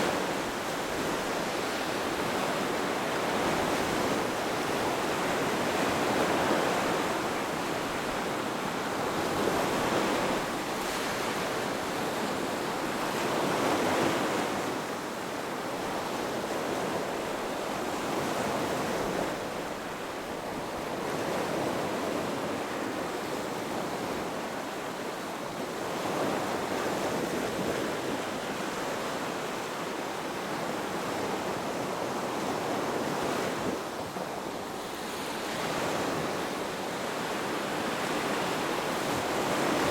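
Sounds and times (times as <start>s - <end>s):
ocean waves breaking on a beach: 0.0s - 39.9s.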